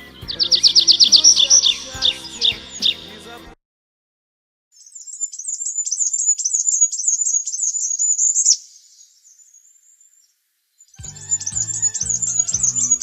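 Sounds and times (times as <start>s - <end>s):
small songbird singing: 0.0s - 3.3s, 4.8s - 13.0s.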